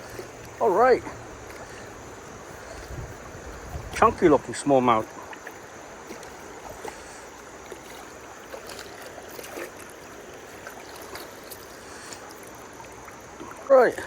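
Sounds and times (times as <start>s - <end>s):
river water running: 0.0s - 14.0s.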